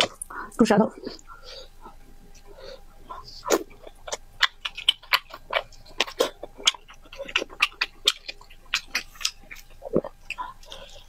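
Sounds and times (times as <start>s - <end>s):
wet chewing and lip smacking: 1.0s - 11.0s.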